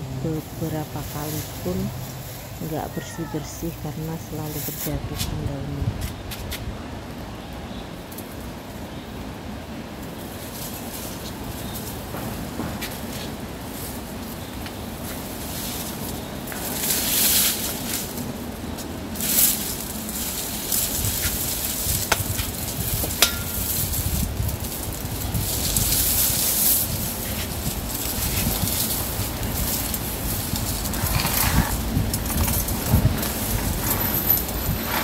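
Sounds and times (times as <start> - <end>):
dry palm fronds rustling and crackling: 0.0 - 35.0.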